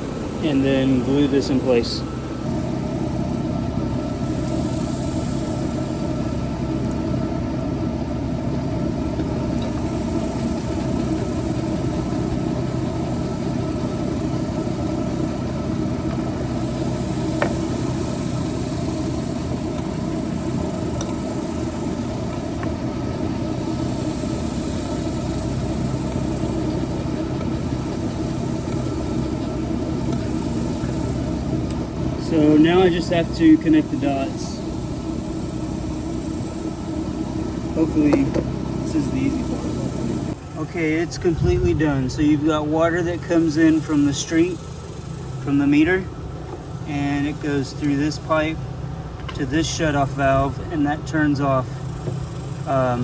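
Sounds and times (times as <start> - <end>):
engine-like drone idling: 0.0 - 53.0.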